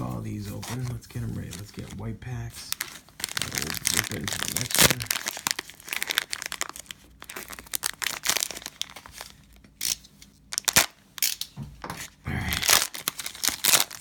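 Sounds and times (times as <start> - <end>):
plastic wrappers crinkling and tearing: 0.1 - 11.4, 12.0 - 14.0.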